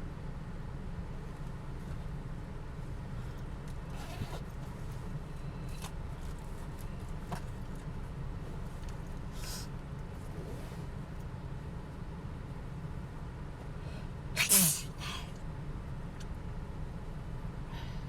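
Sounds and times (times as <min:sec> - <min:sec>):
low rumble inside a car: 0:00.0 - 0:18.0.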